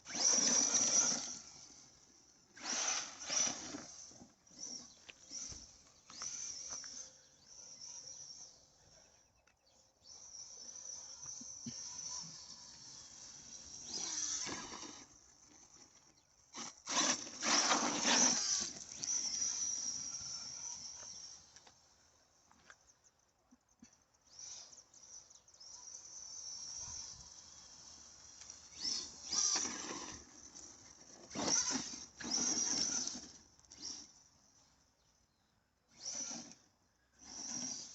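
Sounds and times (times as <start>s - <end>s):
rc truck motor and tyres: 0.0s - 37.9s.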